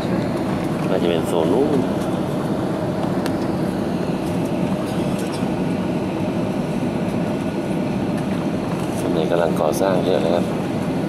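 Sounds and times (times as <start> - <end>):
jet engines: 0.0 - 11.0.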